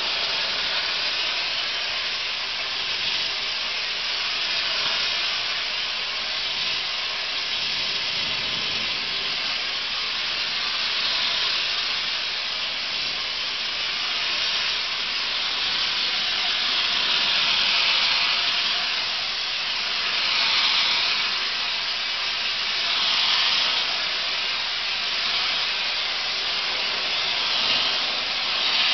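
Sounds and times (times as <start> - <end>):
blaster nozzle hissing: 0.0 - 28.9.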